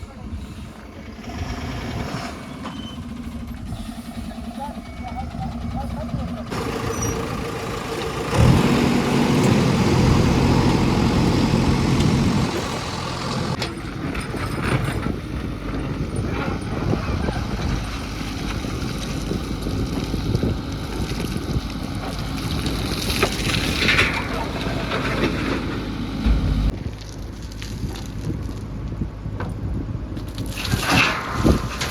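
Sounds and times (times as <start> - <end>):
heavy diesel engine running: 0.0 - 26.9
machinery rumble: 0.0 - 31.9.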